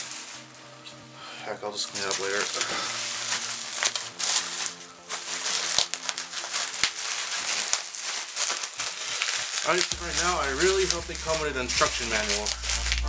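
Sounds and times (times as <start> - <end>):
bubble wrap rustling and crinkling: 0.0 - 0.6, 1.6 - 13.0.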